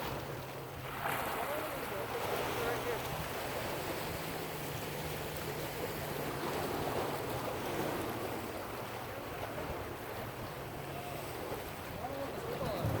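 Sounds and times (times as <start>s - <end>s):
ocean waves on shore: 0.0s - 13.0s
wind buffeting microphone: 0.0s - 13.0s.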